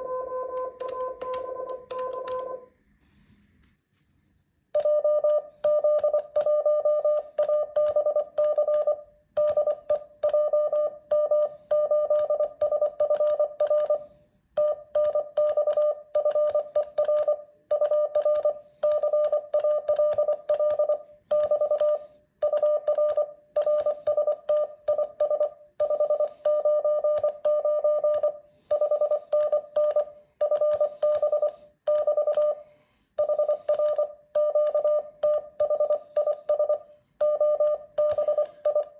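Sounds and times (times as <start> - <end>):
morse code beeps: 0.0 - 2.7, 4.8 - 38.9.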